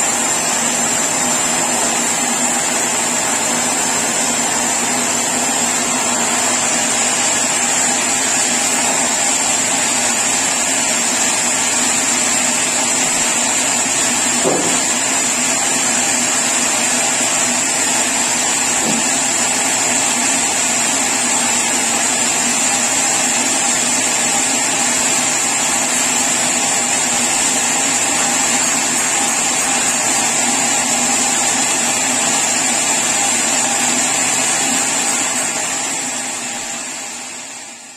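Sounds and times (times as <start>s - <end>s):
sawmill saw cutting wood: 0.0s - 37.9s.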